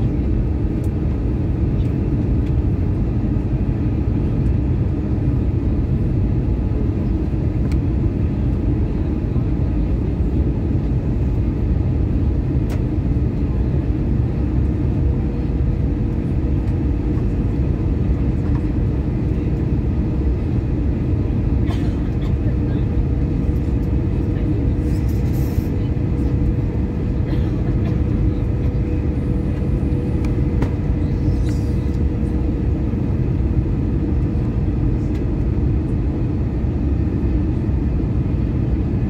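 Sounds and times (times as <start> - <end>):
airplane cabin airflow and engine: 0.0 - 39.0.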